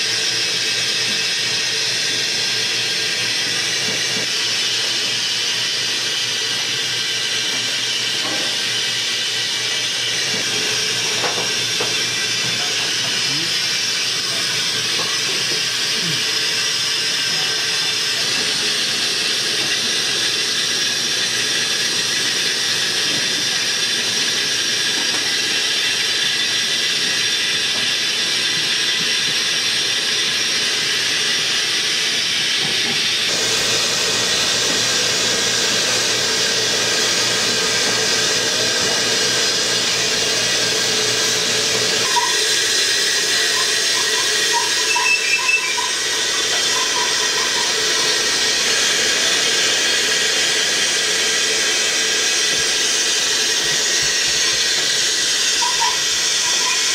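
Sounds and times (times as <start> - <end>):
steam hissing from a steamer: 0.0 - 56.9.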